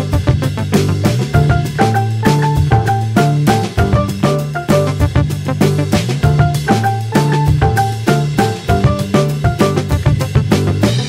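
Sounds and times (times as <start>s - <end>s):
bass line: 0.0s - 11.0s
drum kit beat: 0.0s - 11.0s.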